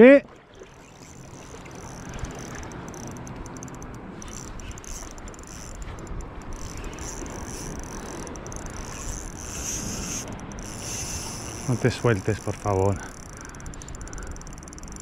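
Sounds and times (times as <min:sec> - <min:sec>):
wind: 0:00.0 - 0:15.0
spinning reel cranked: 0:00.8 - 0:15.0.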